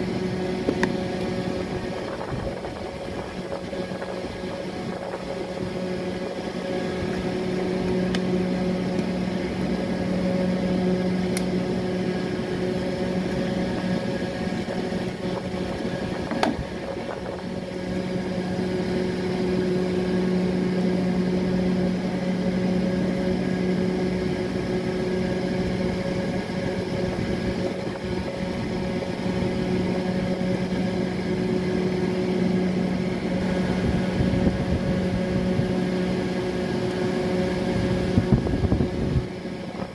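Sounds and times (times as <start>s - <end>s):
steady motor hum: 0.0s - 39.9s.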